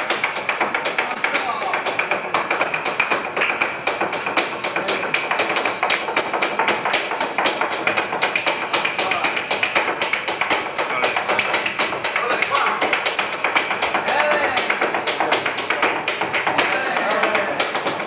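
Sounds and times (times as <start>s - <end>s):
flamenco music: 0.0s - 18.0s
heel and toe strikes on stage: 0.0s - 18.0s.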